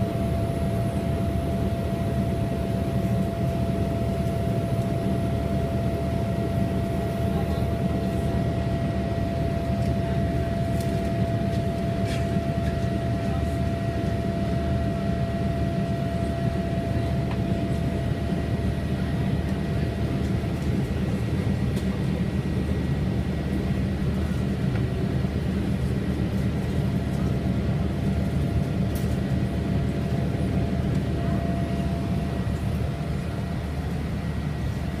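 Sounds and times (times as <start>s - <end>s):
jet engine whine: 0.0s - 35.0s
jet engines rumbling: 0.0s - 35.0s.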